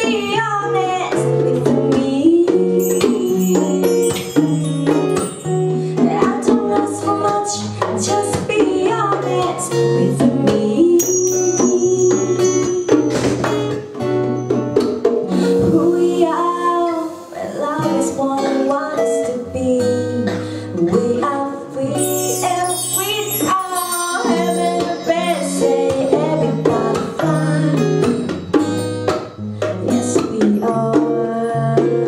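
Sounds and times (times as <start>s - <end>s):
woman singing: 0.0s - 13.3s, 15.3s - 28.9s, 29.6s - 32.0s
hand percussion: 0.0s - 16.0s, 20.9s - 32.0s
acoustic guitar: 0.0s - 32.0s.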